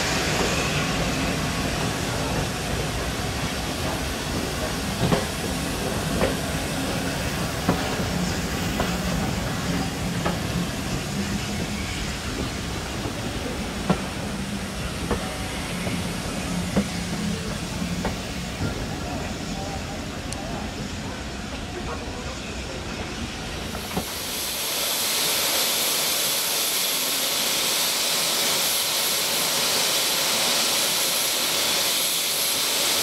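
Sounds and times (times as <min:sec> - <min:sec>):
locomotive steam hissing: 0:00.0 - 0:33.0
train coaches rumbling past: 0:00.0 - 0:33.0.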